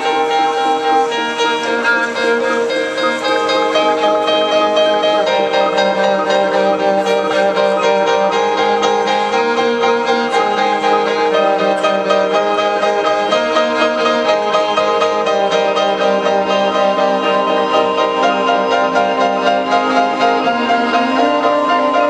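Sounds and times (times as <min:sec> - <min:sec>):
cello: 0:00.0 - 0:22.0
electronic music: 0:00.0 - 0:22.0
piano: 0:00.0 - 0:22.0.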